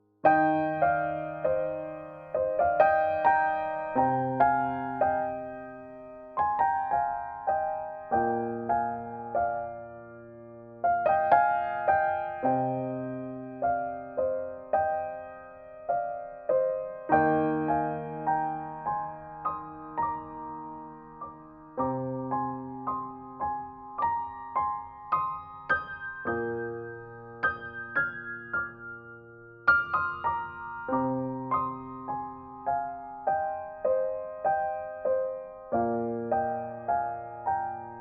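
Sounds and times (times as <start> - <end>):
gentle piano melody: 0.0 - 38.0.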